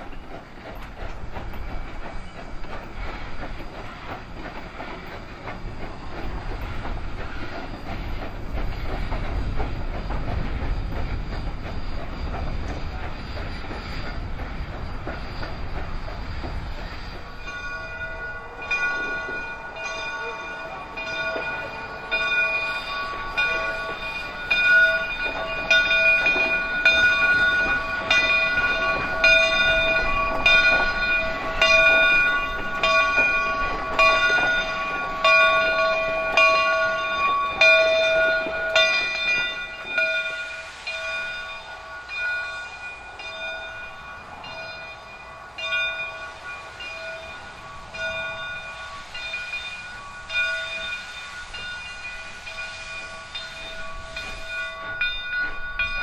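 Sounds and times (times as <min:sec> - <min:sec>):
locomotive bell ringing: 0:00.0 - 0:56.0
steam locomotive rumbling: 0:00.0 - 0:56.0.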